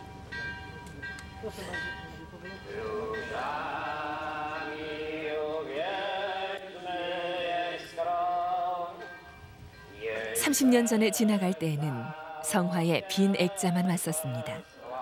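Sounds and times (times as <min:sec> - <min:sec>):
voices singing a slow chant: 0:02.6 - 0:15.0.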